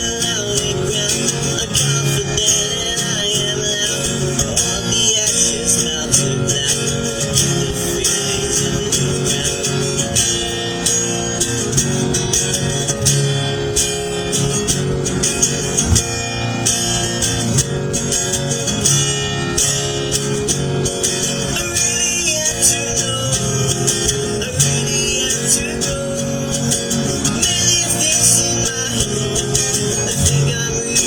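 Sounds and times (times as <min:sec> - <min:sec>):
plucked guitar-like strings: 0:00.0 - 0:31.0.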